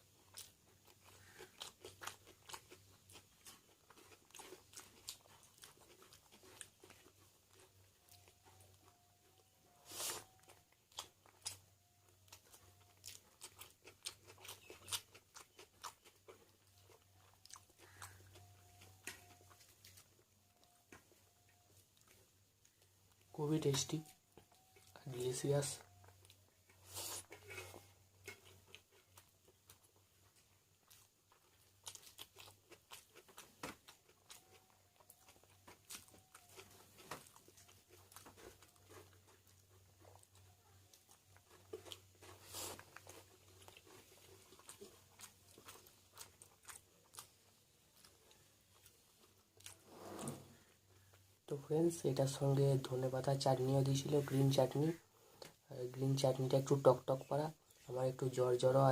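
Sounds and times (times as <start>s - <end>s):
person chewing and crunching food: 0.0s - 58.9s.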